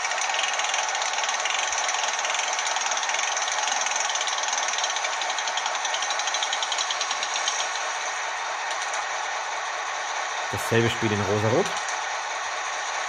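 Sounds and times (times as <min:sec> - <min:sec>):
diesel engine idling through small speaker: 0:00.0 - 0:13.0.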